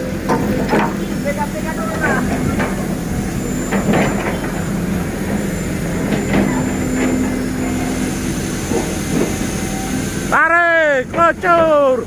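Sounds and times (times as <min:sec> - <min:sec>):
heavy machinery humming: 0:00.0 - 0:12.0.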